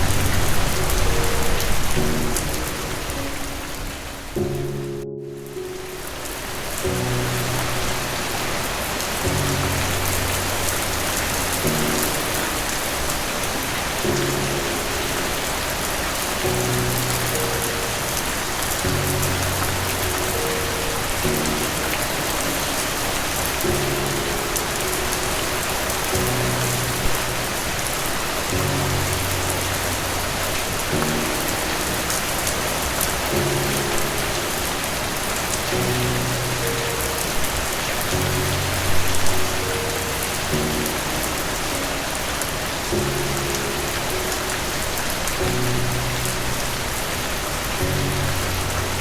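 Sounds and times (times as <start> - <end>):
soft slow chord music: 0.0 - 49.0
steady rain falling: 0.0 - 49.0.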